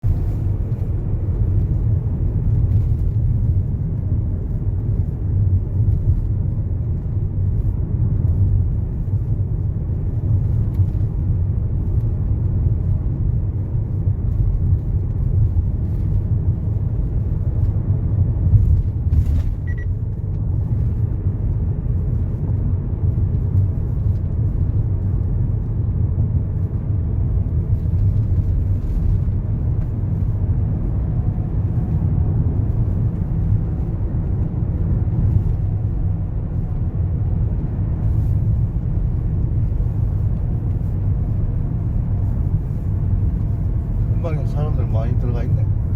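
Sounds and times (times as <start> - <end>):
low rumble: 0.0 - 45.9.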